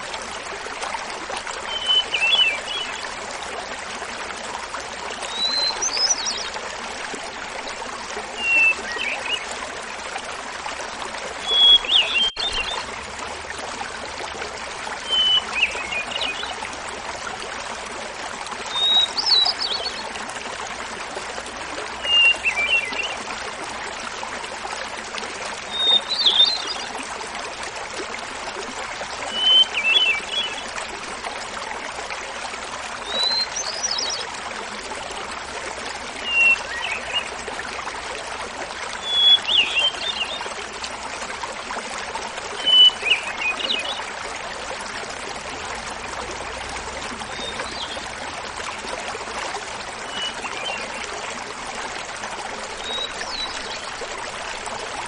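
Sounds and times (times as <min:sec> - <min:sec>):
small waterfall babbling: 0:00.0 - 0:55.0.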